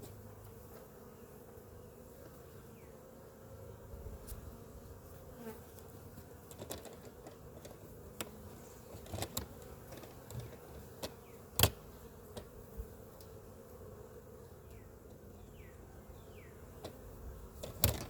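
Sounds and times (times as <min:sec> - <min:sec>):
honeybees humming: 0:00.0 - 0:18.0.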